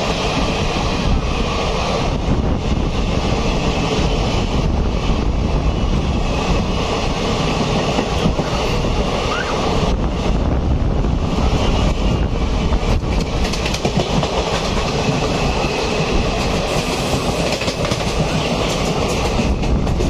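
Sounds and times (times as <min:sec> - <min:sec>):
rushing wind: 0:00.0 - 0:20.0
train wheels rumbling on rails: 0:00.0 - 0:20.0.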